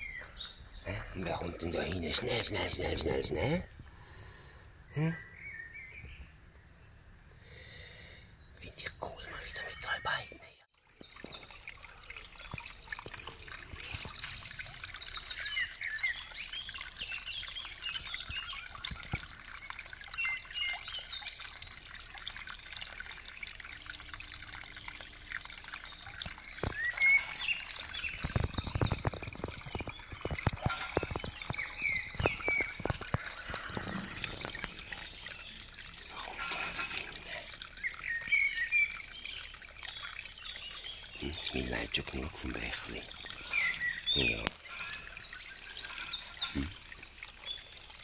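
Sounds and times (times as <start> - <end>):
birds trilling and chirping: 0.0 - 48.0
brook trickling: 0.0 - 48.0.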